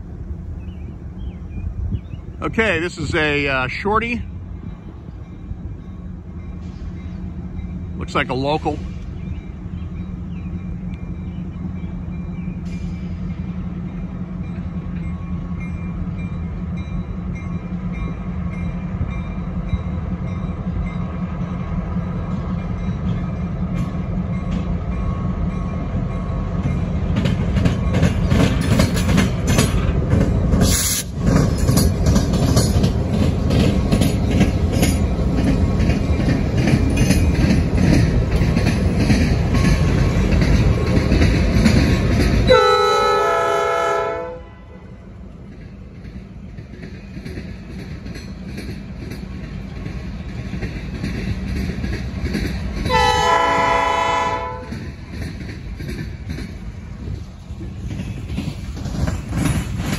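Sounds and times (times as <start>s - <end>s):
diesel locomotive engine rumble: 0.0s - 59.9s
train wheels clacking on rails: 2.5s - 44.2s, 45.1s - 59.9s.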